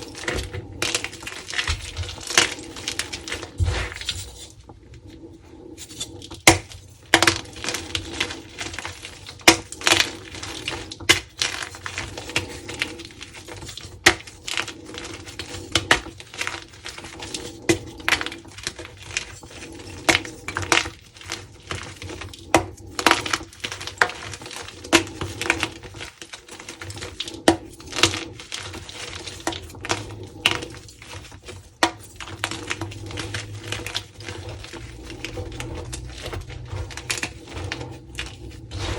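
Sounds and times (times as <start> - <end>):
chalk being crushed: 0.0 - 38.9.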